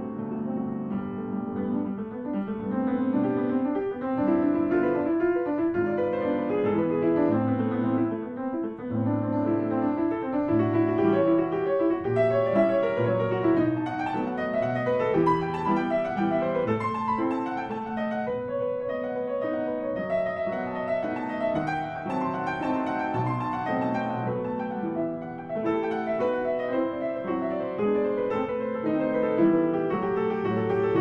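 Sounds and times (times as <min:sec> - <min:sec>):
solo classical piano: 0:00.0 - 0:31.0.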